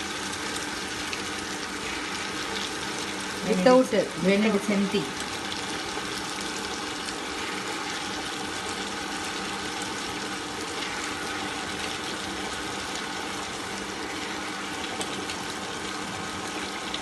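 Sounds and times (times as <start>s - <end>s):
faint motor tone: 0.0s - 17.0s.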